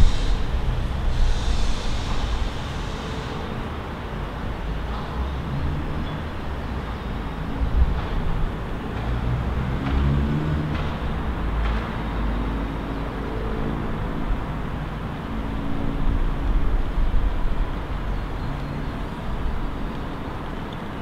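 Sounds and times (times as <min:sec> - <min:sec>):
cars passing: 0:00.0 - 0:21.0
traffic rumble: 0:00.0 - 0:21.0.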